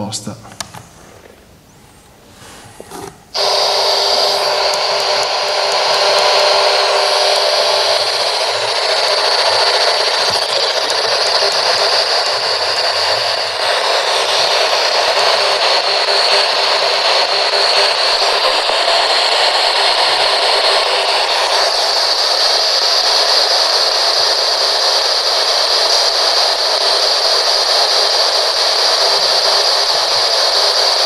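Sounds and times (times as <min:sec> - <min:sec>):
radio white noise hiss: 0:03.4 - 0:31.0.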